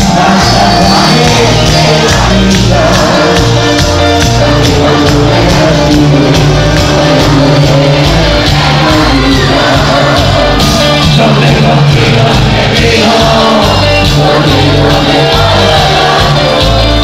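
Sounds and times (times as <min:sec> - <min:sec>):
bass line: 0:00.0 - 0:17.0
live band music with driving beat: 0:00.0 - 0:17.0.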